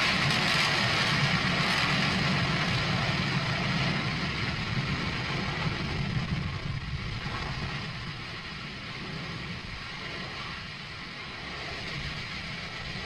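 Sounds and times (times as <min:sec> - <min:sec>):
rocket engine roaring: 0:00.0 - 0:13.0.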